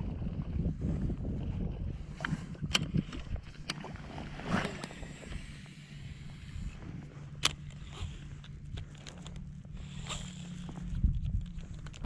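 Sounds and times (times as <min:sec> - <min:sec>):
low steady rumble: 0:00.0 - 0:12.0
wading in shallow water: 0:00.0 - 0:12.0.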